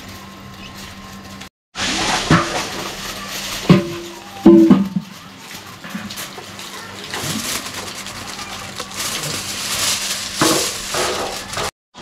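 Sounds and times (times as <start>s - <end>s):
aluminium foil crinkling: 0.0s - 11.8s.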